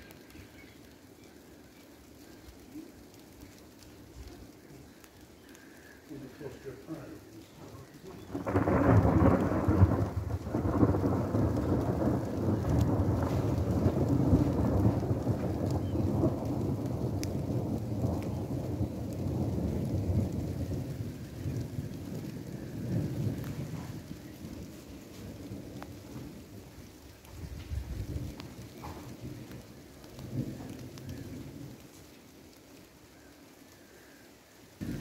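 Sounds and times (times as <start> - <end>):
thunder rumbling: 0.0 - 35.0.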